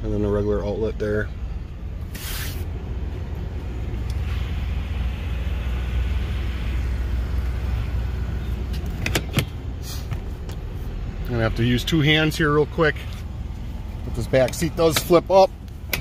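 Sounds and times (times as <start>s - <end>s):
pickup engine idling: 1.2s - 16.0s.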